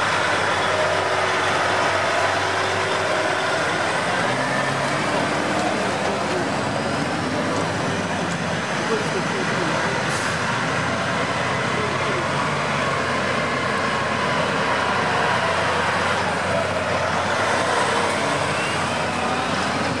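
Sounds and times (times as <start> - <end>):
truck diesel engine rumble: 0.0 - 20.0.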